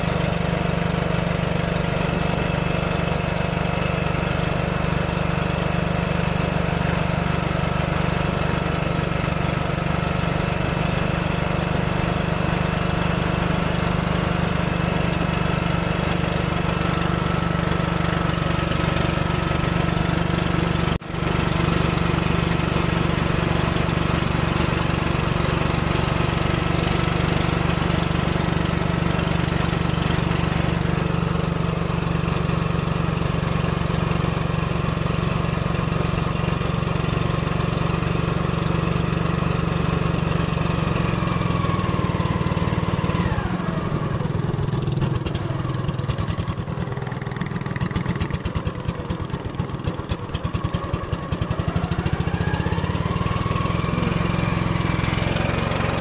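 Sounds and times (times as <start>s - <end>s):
small boat engine running: 0.0s - 56.0s.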